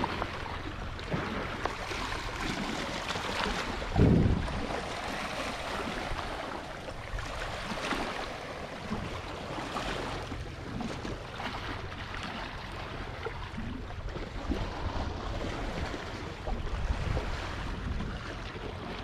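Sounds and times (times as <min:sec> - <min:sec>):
sea water washing: 0:00.0 - 0:19.0
wind rumbling on microphone: 0:00.0 - 0:19.0.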